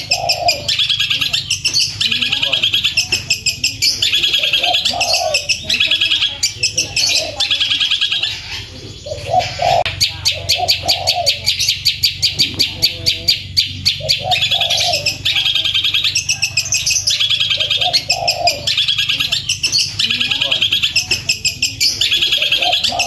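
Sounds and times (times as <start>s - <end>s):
bird singing rapid high notes: 0.0s - 23.0s.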